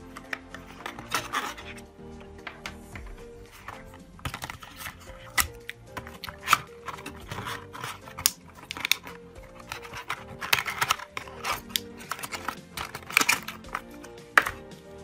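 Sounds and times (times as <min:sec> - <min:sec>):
background music: 0:00.0 - 0:15.0
cardboard clicks and taps: 0:00.2 - 0:14.8.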